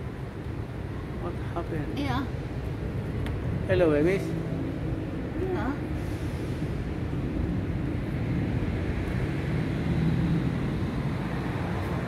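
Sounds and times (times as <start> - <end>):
low urban background rumble: 0.0 - 12.0.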